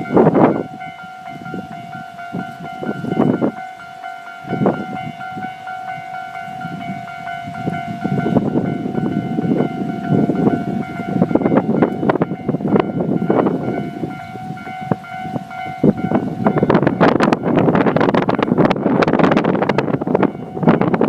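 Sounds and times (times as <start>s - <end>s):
diesel train rumble: 0.0s - 21.0s
level crossing alarm ringing: 0.0s - 21.0s.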